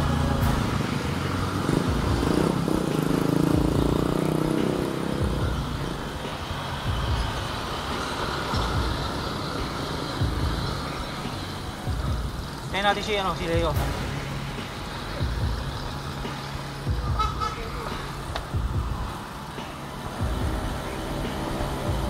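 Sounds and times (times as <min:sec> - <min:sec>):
motor vehicle engines running: 0:00.0 - 0:22.0.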